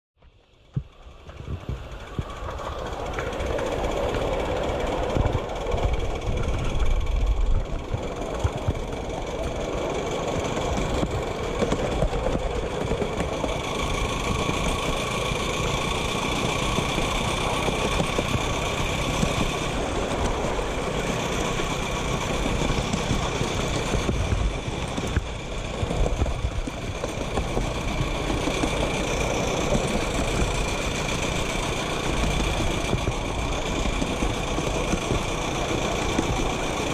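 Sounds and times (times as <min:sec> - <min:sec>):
miniature steam locomotive running: 0:00.2 - 0:36.9.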